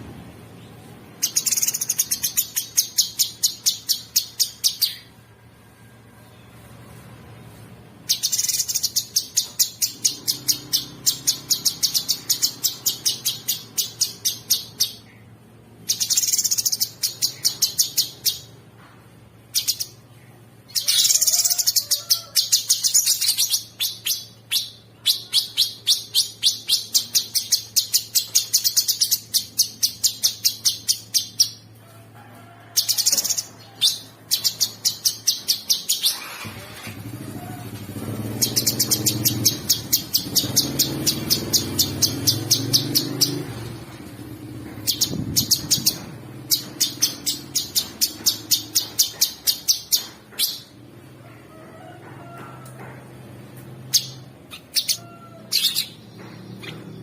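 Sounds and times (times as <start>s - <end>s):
bird chattering song: 0.6s - 5.2s, 8.0s - 18.6s, 19.4s - 31.8s, 32.8s - 36.4s, 37.6s - 50.8s, 53.8s - 57.0s.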